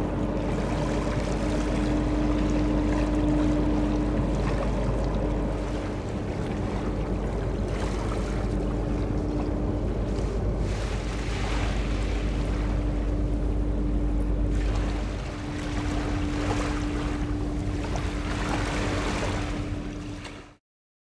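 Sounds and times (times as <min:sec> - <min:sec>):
wind rumbling on microphone: 0:00.0 - 0:20.5
small waves washing on shore: 0:00.0 - 0:20.6
thin steady hum: 0:00.0 - 0:20.6.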